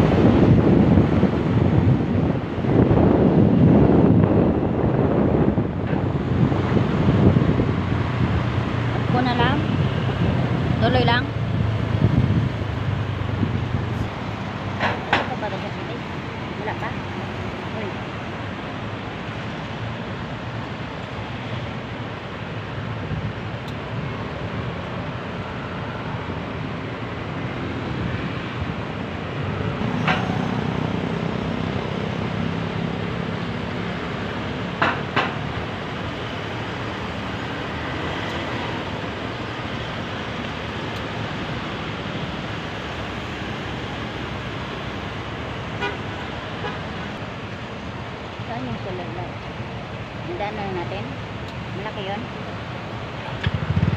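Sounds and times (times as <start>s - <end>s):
road traffic noise: 0.0s - 53.9s.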